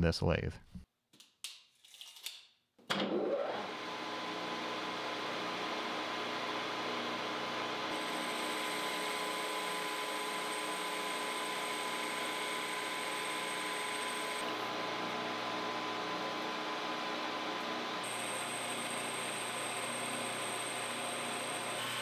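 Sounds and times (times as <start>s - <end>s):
lathe running with whine: 3.4s - 22.0s.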